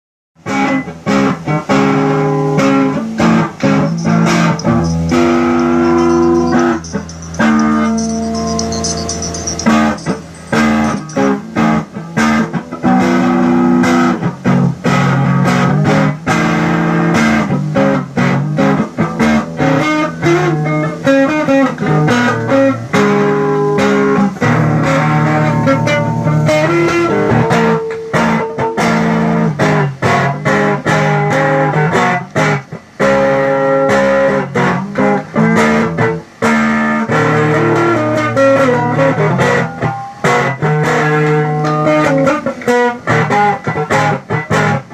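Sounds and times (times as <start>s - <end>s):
electric guitar notes and chords: 0.5s - 44.9s.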